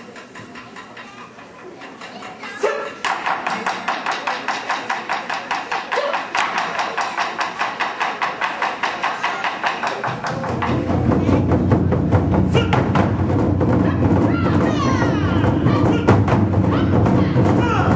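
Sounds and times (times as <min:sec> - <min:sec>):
low drums: 0:00.0 - 0:17.9.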